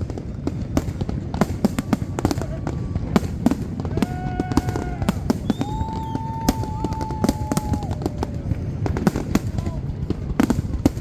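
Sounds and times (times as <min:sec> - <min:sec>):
fireworks bursting: 0:00.0 - 0:11.0
long steady tones: 0:00.0 - 0:11.0.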